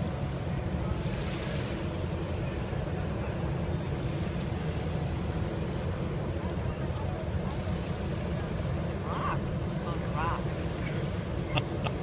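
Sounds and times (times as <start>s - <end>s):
water washing on sandy shore: 0.0s - 12.0s.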